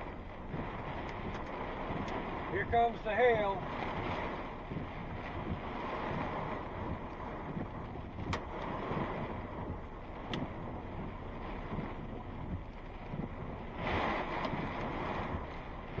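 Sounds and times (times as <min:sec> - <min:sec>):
wind-driven rain: 0:00.0 - 0:16.0.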